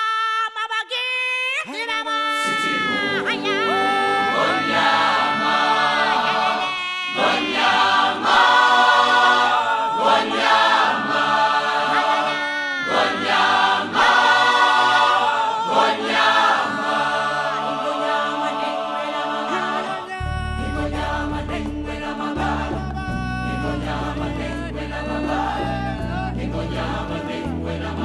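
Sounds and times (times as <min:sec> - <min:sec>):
choir singing in harmony: 0:02.3 - 0:28.0.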